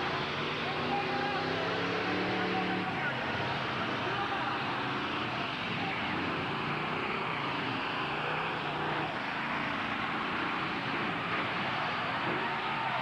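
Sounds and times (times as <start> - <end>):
truck engines rumbling: 0.0 - 13.0.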